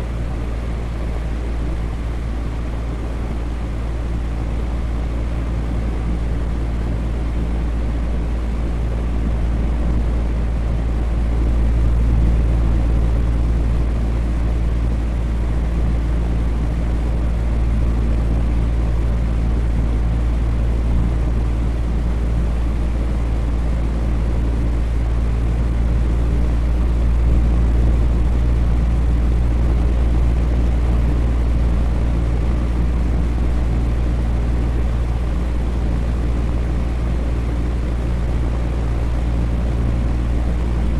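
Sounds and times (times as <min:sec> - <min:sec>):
electric fan running: 0:00.0 - 0:40.9.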